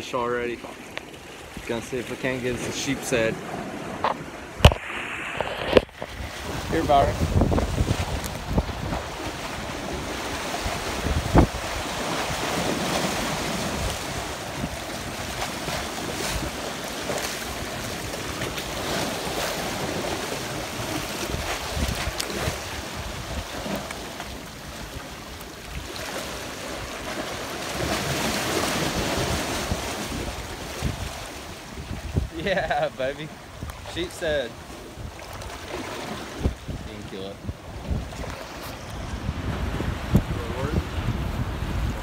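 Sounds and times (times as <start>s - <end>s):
waves sloshing against rocks: 0.0s - 42.0s
wind buffeting microphone: 3.4s - 42.0s.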